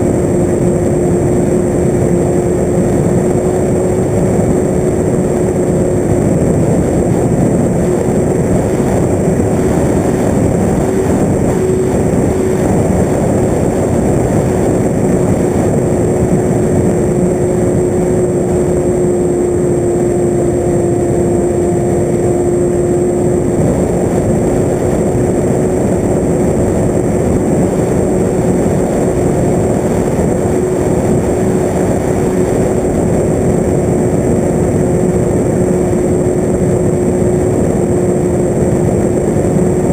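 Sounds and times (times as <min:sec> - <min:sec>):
model aircraft motor and propeller: 0:00.0 - 0:39.9
rush of air: 0:00.0 - 0:39.9.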